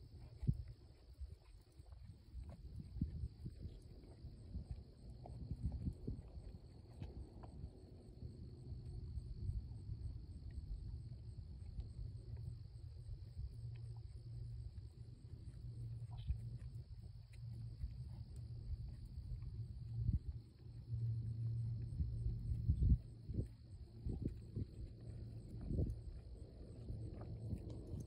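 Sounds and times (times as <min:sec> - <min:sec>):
crickets chirping: 0:00.0 - 0:28.0
low rumble: 0:01.4 - 0:28.0.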